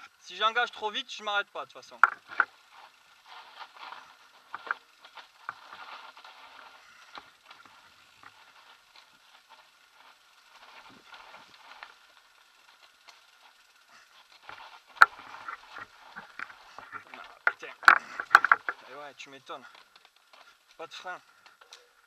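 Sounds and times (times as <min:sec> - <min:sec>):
bike clicks and rattles: 0:00.0 - 0:22.0
bike tyres rolling over dirt: 0:00.0 - 0:22.0.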